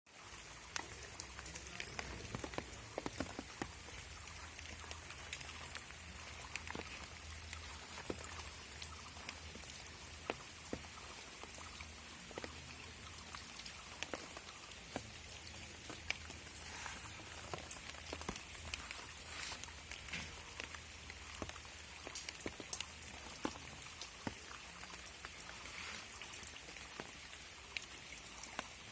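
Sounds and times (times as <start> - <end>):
raindrops tapping: 0.1 - 28.9
steady rain falling: 0.1 - 28.9.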